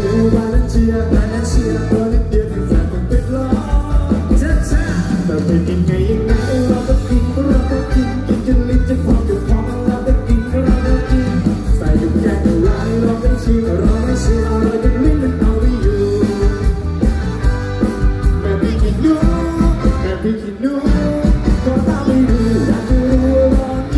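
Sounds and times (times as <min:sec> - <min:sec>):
man singing into microphone: 0:00.0 - 0:17.0, 0:18.2 - 0:23.9
amplified backing music with beat: 0:00.0 - 0:23.9.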